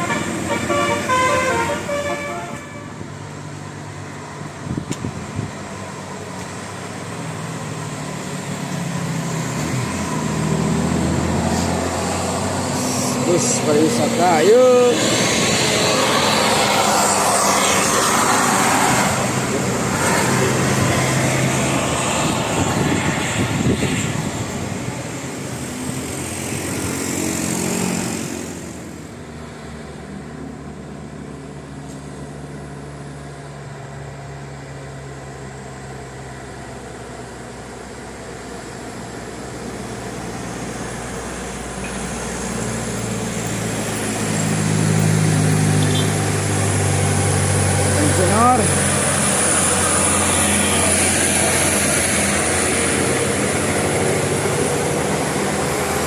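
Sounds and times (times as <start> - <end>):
large vehicles passing: 0.0 - 56.0
steady engine hum: 0.0 - 56.0.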